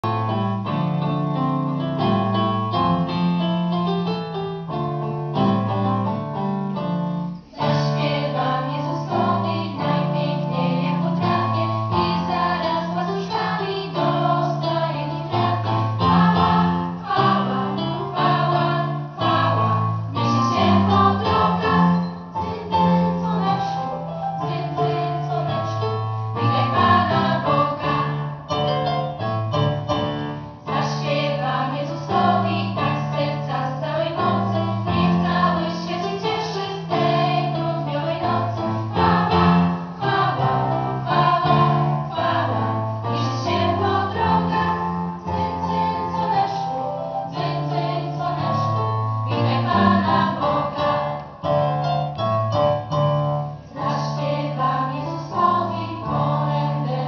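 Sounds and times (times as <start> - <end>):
girls' choir singing a carol: 7.5 - 28.8, 29.6 - 52.1, 53.5 - 57.0.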